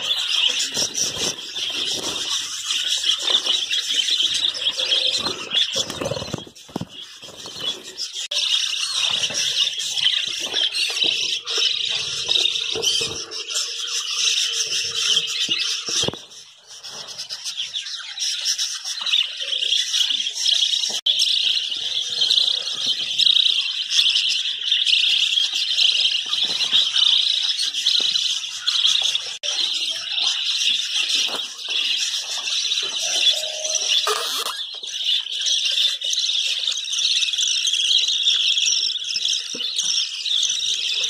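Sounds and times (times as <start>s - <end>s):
budgerigars chattering: 0.0s - 20.4s, 21.1s - 36.1s.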